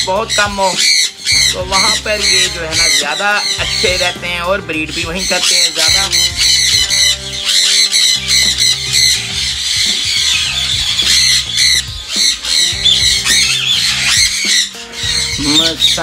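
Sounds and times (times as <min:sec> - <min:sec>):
background music with low notes: 0:00.0 - 0:16.0
parrots screeching: 0:00.0 - 0:16.0.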